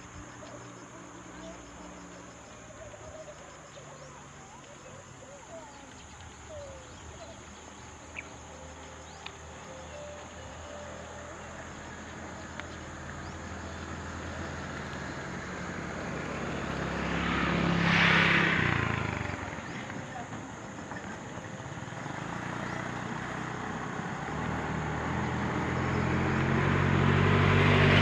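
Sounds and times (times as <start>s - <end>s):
tyre road noise: 0.0s - 28.0s
vehicle passing by: 0.0s - 28.0s.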